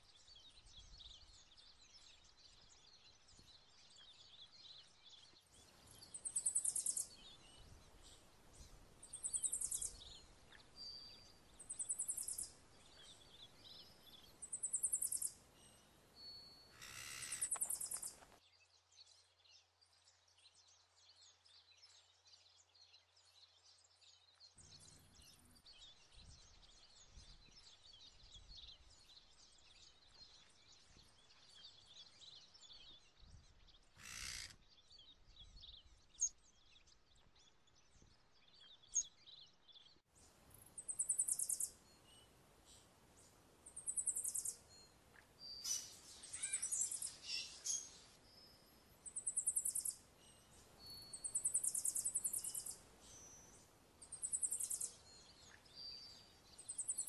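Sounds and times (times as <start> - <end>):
faint bird chirps and twitters: 0.0 - 57.0.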